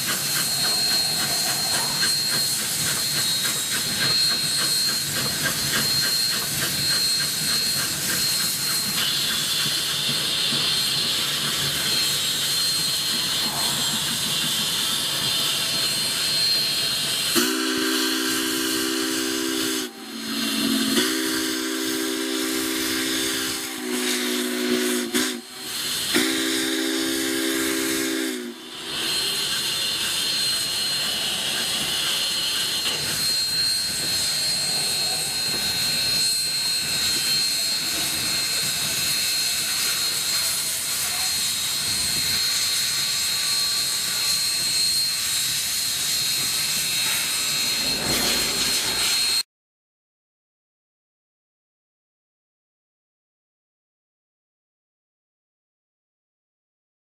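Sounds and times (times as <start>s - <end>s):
steam whistle blasts: 0.0s - 49.4s.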